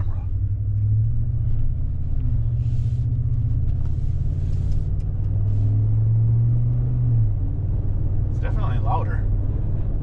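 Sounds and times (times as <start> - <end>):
faint road noise: 0.0 - 10.0
low exhaust rumble: 0.0 - 10.0.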